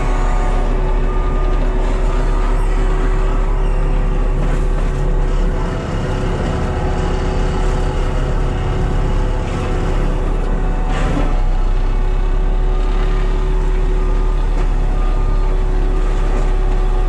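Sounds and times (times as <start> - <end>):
skid steer diesel engine: 0.0 - 17.0.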